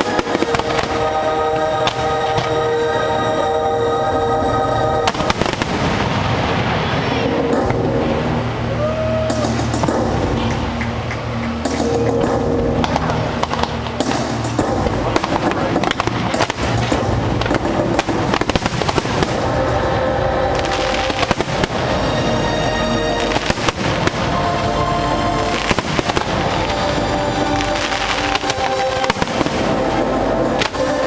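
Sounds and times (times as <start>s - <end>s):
fireworks popping and crackling: 0.0s - 2.6s, 5.0s - 31.0s
music: 0.0s - 31.0s.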